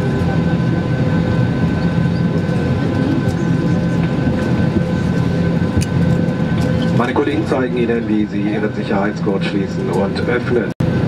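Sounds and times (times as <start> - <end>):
airplane cabin air rush: 0.0 - 11.0.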